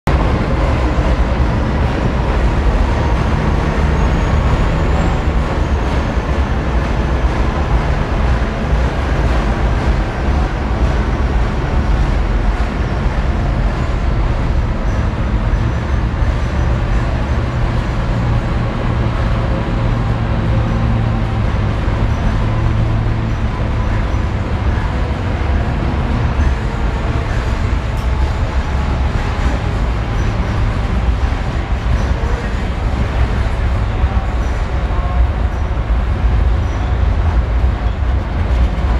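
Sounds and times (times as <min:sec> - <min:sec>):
metro train rumbling in tunnel: 0:00.0 - 0:38.9.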